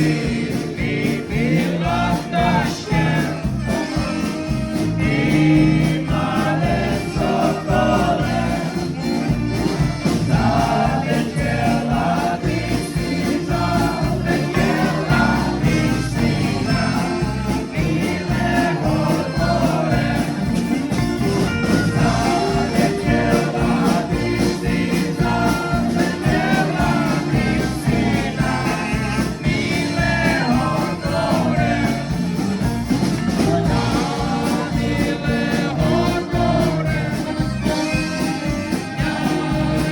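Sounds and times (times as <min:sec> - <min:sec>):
instrumental accompaniment: 0:00.0 - 0:39.9
voices singing a melody: 0:00.0 - 0:39.9.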